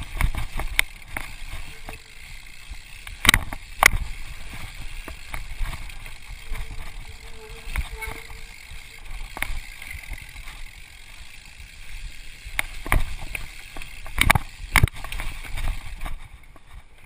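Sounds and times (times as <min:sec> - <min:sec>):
bike knocking and rattling: 0:00.0 - 0:17.0
tyres rumbling on dirt trail: 0:00.0 - 0:17.0.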